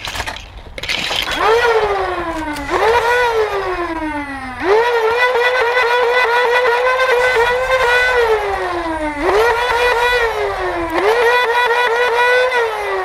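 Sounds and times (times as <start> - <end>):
siren wailing: 1.4 - 13.0.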